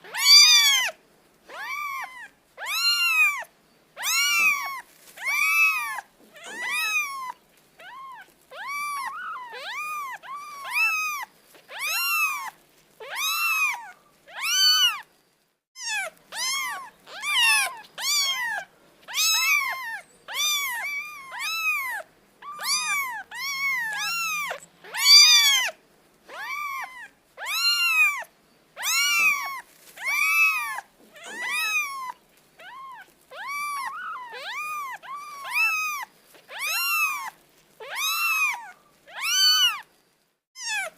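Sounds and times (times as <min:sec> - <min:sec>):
cat meowing: 0:00.0 - 0:15.1, 0:15.8 - 0:39.9, 0:40.6 - 0:40.9.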